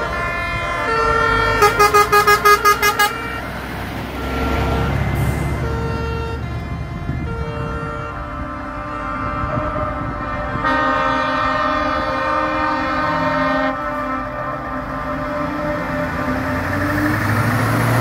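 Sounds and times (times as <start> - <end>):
truck air horn: 0.0 - 3.6, 4.2 - 17.4
diesel engine rumble: 0.0 - 18.0.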